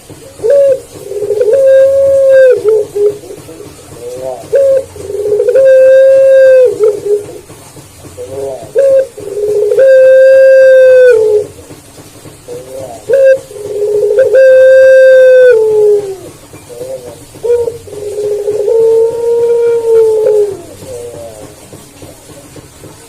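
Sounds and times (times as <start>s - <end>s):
dove cooing: 0.0s - 22.5s.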